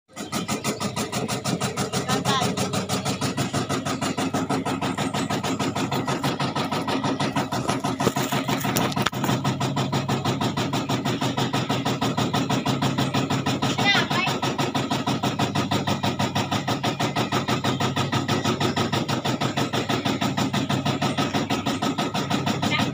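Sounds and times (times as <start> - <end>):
engine running steadily: 0.1 - 22.9.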